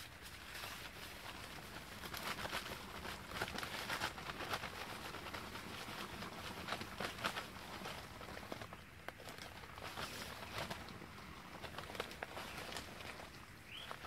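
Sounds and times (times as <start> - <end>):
paper bag crackling: 0.0 - 14.0.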